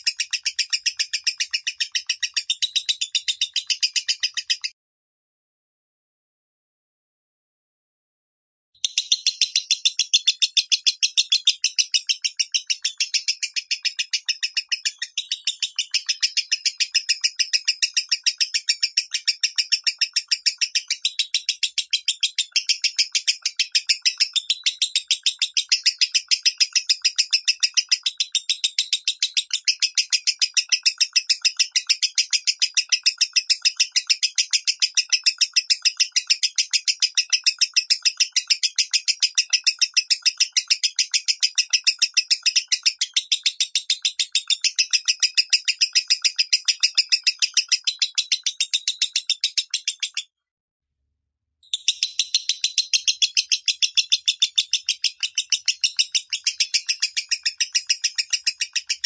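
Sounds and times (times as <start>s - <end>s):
bird chirping rapidly: 0.0s - 4.8s, 8.8s - 50.3s, 51.6s - 59.0s.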